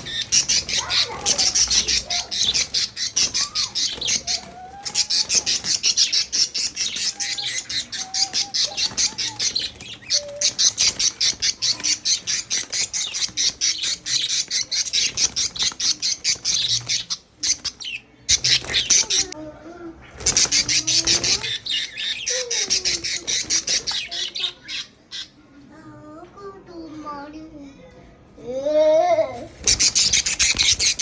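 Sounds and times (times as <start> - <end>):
birds squawking: 0.0 - 19.4, 20.0 - 25.4, 29.5 - 31.0.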